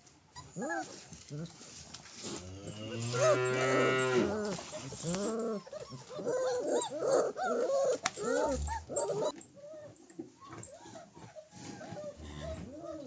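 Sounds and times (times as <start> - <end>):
puppies whining and yelping: 0.2 - 1.7, 3.0 - 13.0.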